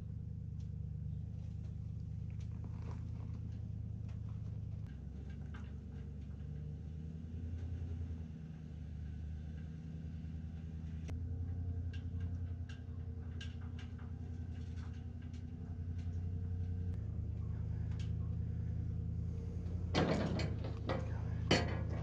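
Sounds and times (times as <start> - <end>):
backhoe engine idling: 0.0 - 22.0
rattling clatter: 1.6 - 8.3, 10.5 - 22.0.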